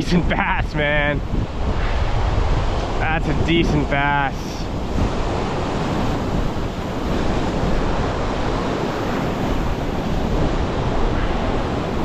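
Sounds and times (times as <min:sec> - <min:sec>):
heavy surf on rocky shore: 0:00.0 - 0:12.0
wind buffeting microphone: 0:00.0 - 0:12.0.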